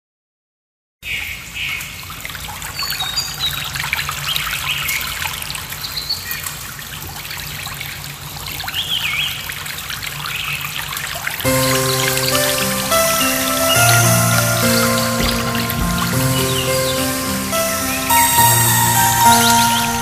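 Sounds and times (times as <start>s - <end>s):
trickling stream: 1.3s - 20.0s.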